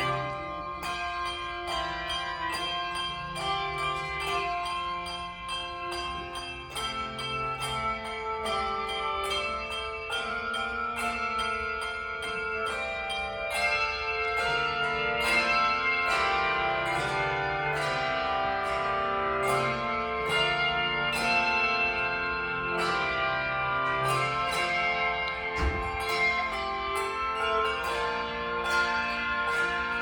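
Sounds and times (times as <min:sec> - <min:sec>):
deep bells ringing: 0:00.0 - 0:30.0
handbells playing a tune: 0:00.0 - 0:30.0.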